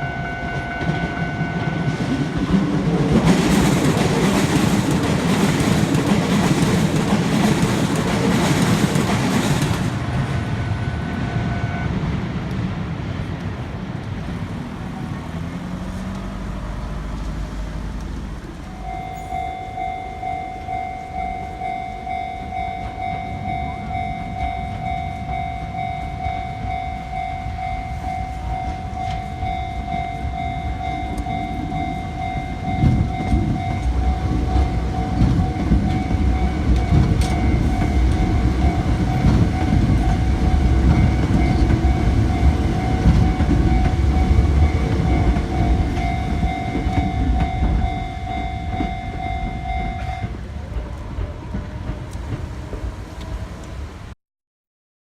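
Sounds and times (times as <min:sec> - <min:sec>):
railroad crossing bell ringing: 0:00.0 - 0:12.4, 0:16.5 - 0:53.9
train passing: 0:00.0 - 0:54.2.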